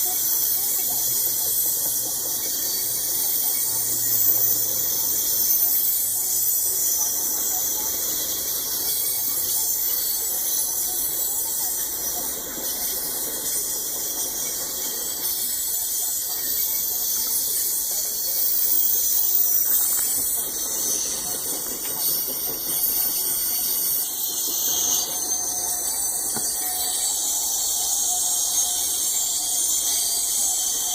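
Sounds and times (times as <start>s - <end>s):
train cars rolling on rails: 0.0s - 30.9s
wheels squealing and hissing: 0.0s - 30.9s.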